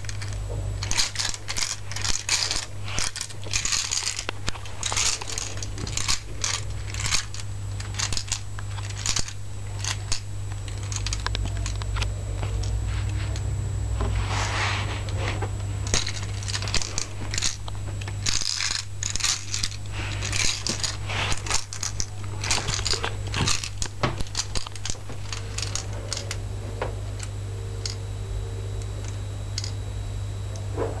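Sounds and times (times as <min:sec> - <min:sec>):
plastic parts clicking and rattling: 0:00.0 - 0:12.8, 0:15.8 - 0:28.0, 0:29.0 - 0:29.8
steady low hum: 0:00.0 - 0:31.0.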